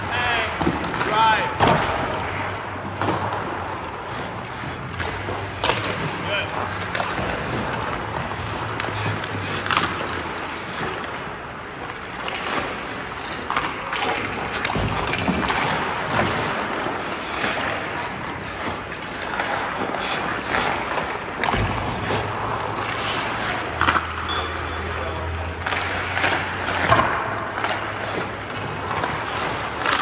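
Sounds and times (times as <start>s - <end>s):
skate blades scraping ice: 0.0s - 30.0s.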